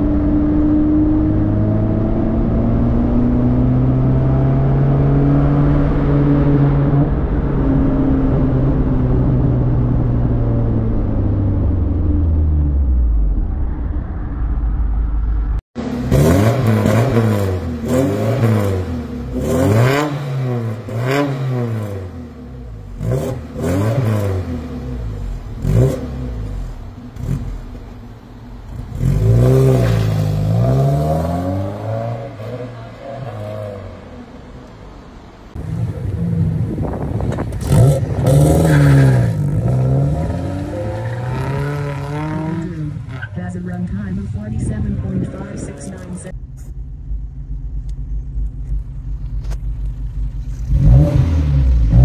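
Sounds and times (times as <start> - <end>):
car engine revving: 0.0 - 52.0
car pulling away: 0.0 - 52.0.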